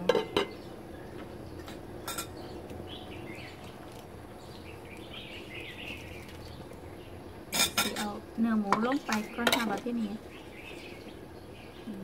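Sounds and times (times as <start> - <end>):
faint bird chirping: 0.4 - 8.2, 9.0 - 12.0.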